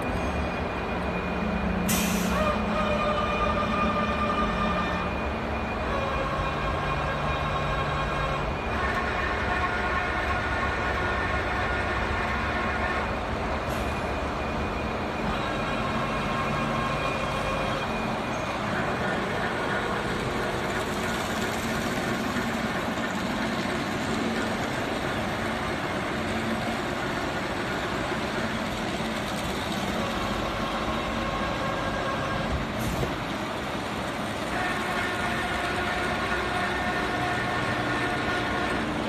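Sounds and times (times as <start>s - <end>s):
machining centre humming: 0.0s - 39.0s.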